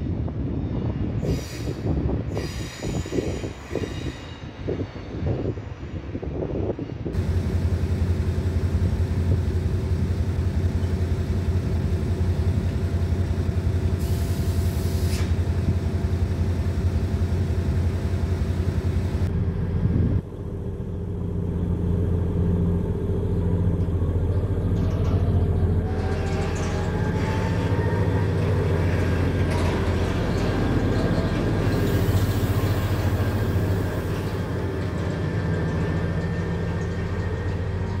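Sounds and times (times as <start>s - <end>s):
diesel locomotive engine droning: 0.0s - 38.0s.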